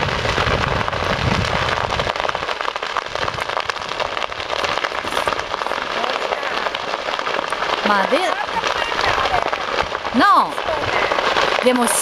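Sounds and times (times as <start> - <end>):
vegetation fire crackling: 0.0 - 12.0.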